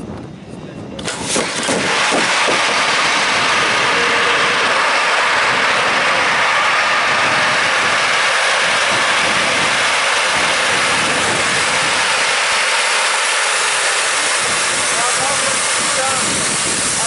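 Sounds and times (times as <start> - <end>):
gas hissing into liferaft: 1.0 - 17.0.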